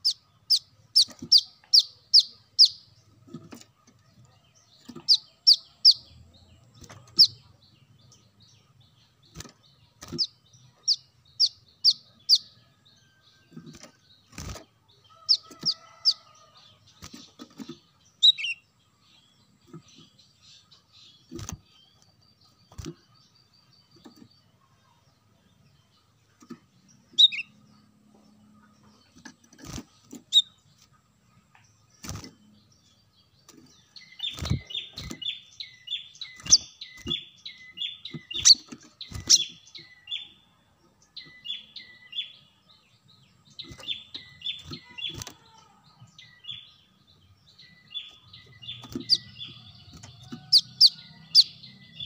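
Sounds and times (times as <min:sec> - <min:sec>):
bird chirping: 0:00.0 - 0:52.0.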